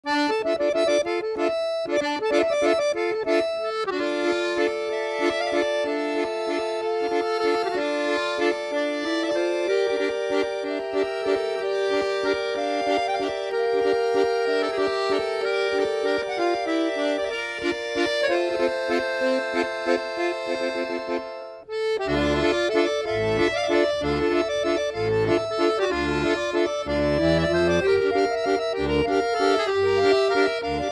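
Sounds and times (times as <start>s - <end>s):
instrumental music with held chords: 0.0s - 30.9s.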